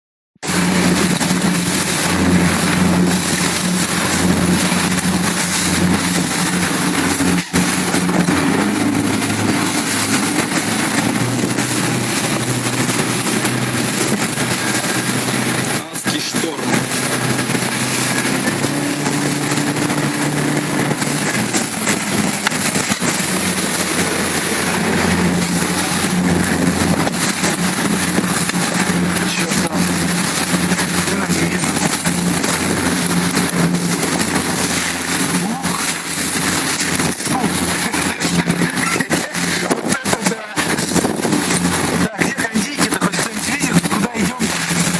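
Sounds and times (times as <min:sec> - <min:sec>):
motorboat engine running: 0:00.4 - 0:44.9
wind on microphone: 0:00.4 - 0:44.9.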